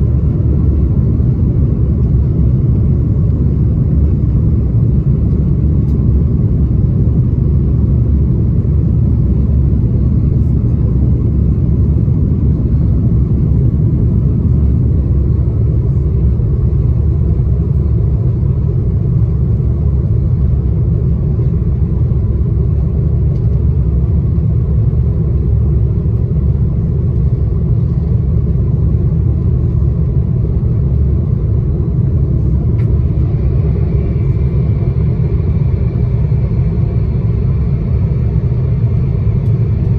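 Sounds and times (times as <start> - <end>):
faint steady hum: 0.0 - 39.9
jet cabin rumble: 0.0 - 39.9.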